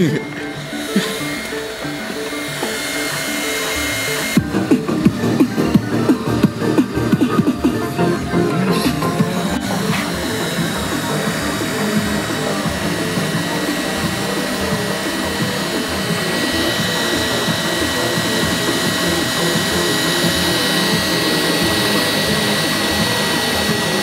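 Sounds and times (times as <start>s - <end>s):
cooling fan whir: 0.0s - 24.0s
stepper motors whirring: 0.0s - 24.0s.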